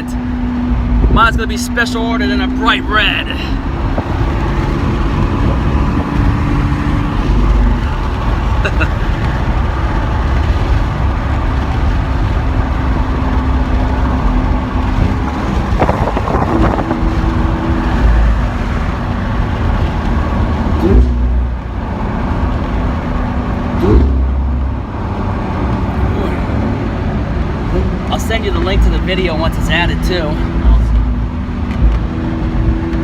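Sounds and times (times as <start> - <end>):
car engine while driving: 0.0 - 33.0
road rumble: 0.0 - 33.0.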